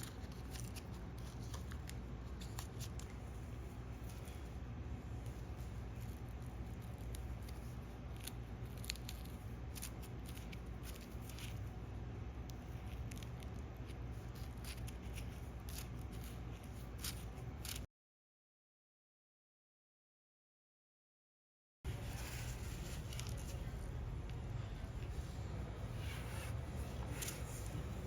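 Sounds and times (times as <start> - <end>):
low steady hum: 0.0 - 17.9, 21.9 - 28.0.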